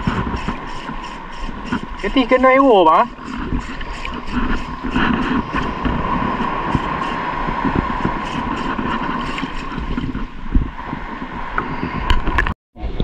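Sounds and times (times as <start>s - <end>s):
sea water lapping: 0.0s - 11.6s
wind buffeting microphone: 0.0s - 13.0s.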